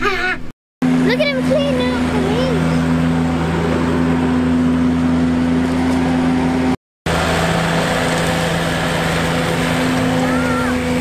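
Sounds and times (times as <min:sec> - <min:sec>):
motor-like drone: 0:00.8 - 0:11.0.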